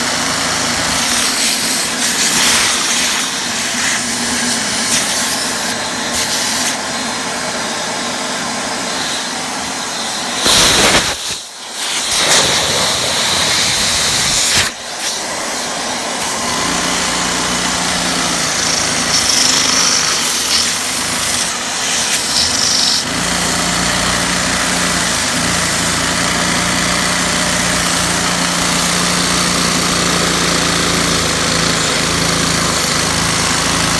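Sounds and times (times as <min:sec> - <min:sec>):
vacuum cleaner motor hiss: 0:00.0 - 0:33.9.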